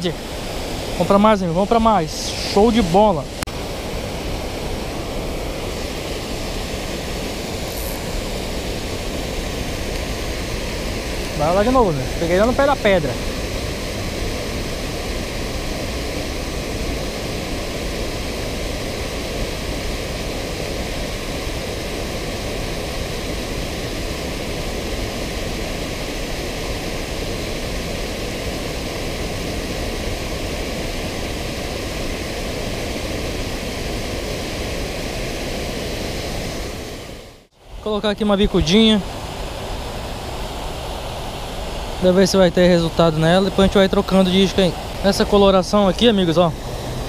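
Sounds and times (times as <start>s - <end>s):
water rushing over a weir: 0.0s - 47.0s.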